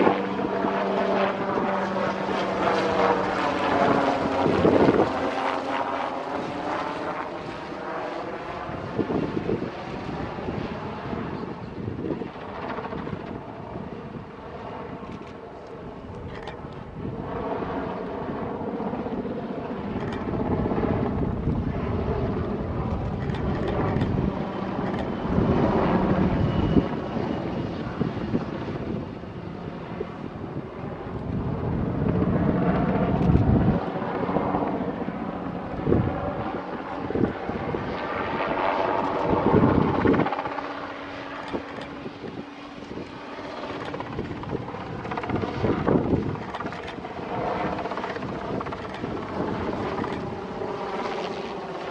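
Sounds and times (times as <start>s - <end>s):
helicopter rotor beat: 0.0s - 51.9s.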